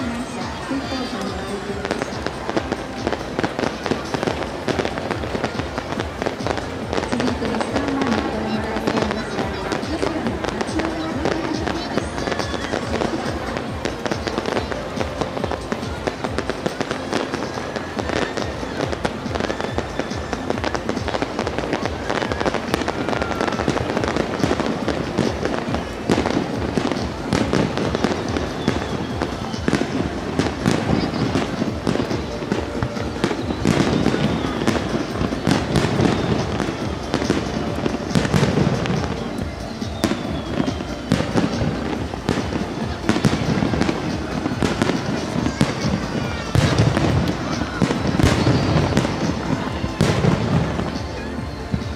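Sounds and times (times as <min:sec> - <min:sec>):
fireworks bursting and crackling: 0:00.0 - 0:51.9
music: 0:00.0 - 0:51.9
voices: 0:00.0 - 0:51.9.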